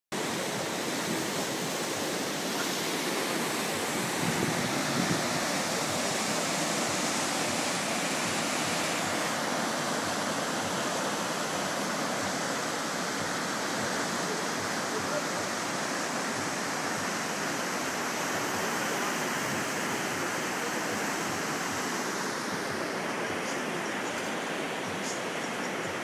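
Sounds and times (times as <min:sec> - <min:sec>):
churning foaming water: 0:00.1 - 0:26.0.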